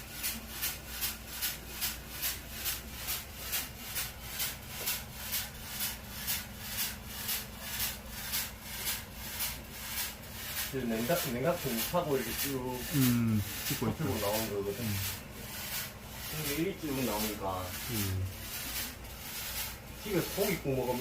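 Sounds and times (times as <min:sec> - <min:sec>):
machine hiss pulsing: 0:00.0 - 0:21.0
machine low hum: 0:00.0 - 0:21.0.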